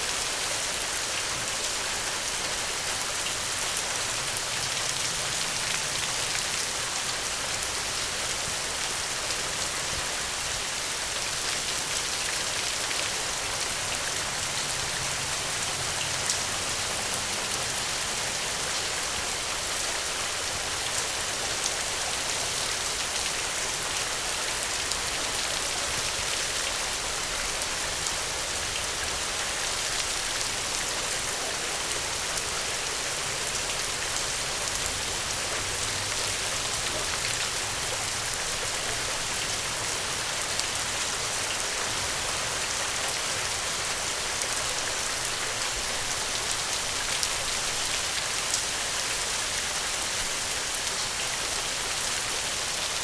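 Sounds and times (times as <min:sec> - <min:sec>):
steady rain hissing: 0:00.0 - 0:53.0.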